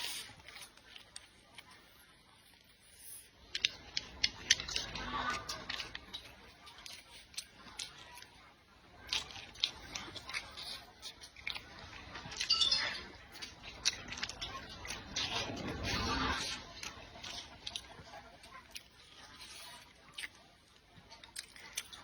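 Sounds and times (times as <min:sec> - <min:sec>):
chewing and slurping: 0:00.0 - 0:22.0.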